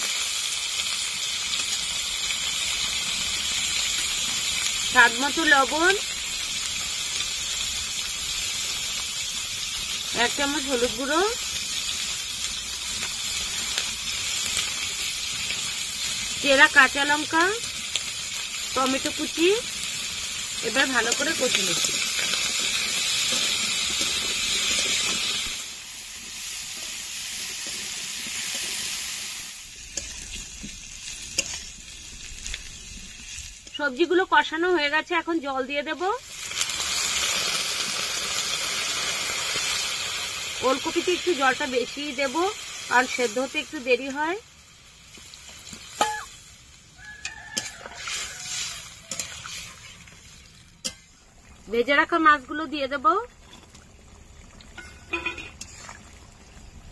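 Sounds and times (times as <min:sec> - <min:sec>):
vegetables sizzling in hot oil: 0:00.0 - 0:56.9.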